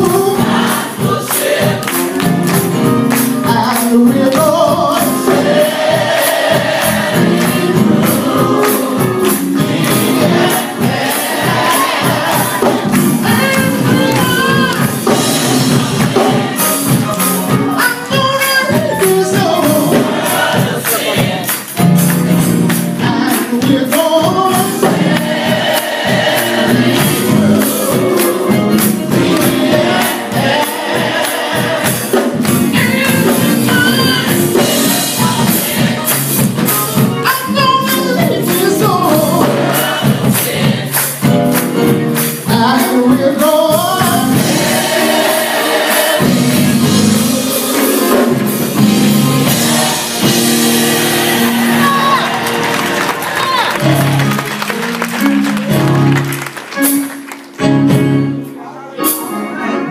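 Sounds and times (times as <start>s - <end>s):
tambourine rhythm: 0.0s - 56.1s
choir singing gospel: 0.0s - 59.9s.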